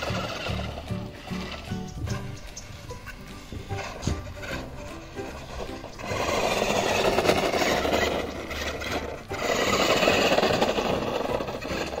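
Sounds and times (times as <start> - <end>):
toy truck motor whirring: 0.0 - 12.0.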